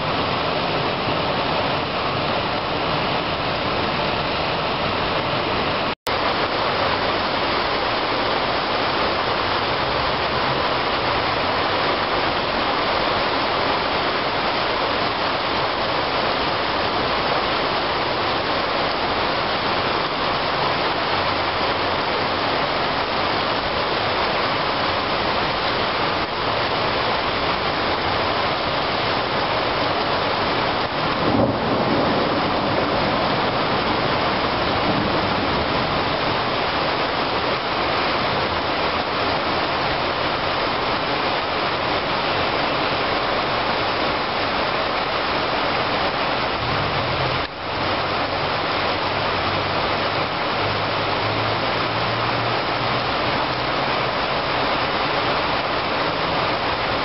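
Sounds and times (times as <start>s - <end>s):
heavy rain on wet street: 0.0s - 57.0s.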